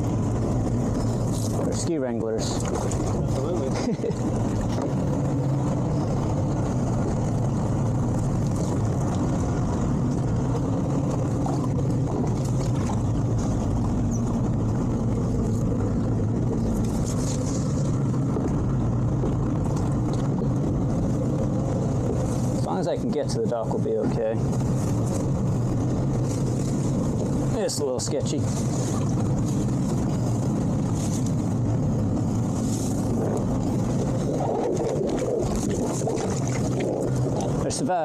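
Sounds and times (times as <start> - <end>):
outboard engines droning: 0.0 - 38.0.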